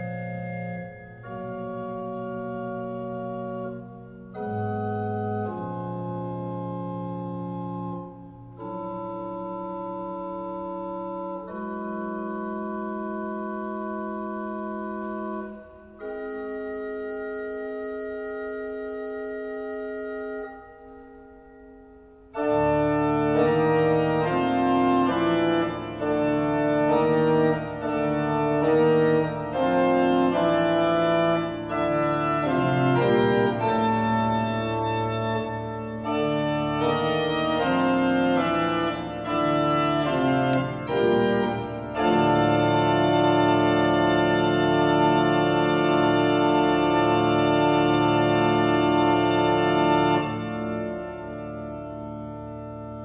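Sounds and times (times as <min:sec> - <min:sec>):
organ playing chords: 0:00.0 - 0:53.0.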